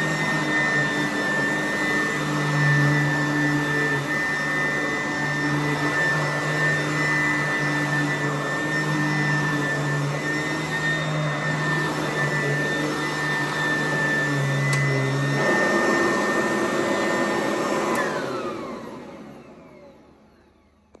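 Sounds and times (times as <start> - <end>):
vacuum cleaner motor whine: 0.0 - 21.0.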